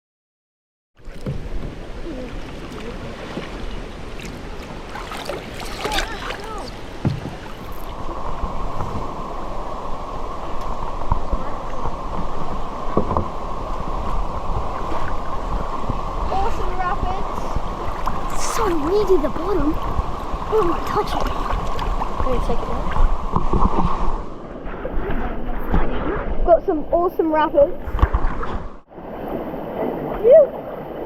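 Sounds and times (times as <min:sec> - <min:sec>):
creek water rushing: 0:01.0 - 0:25.5, 0:28.9 - 0:31.0
wind on microphone: 0:01.0 - 0:31.0.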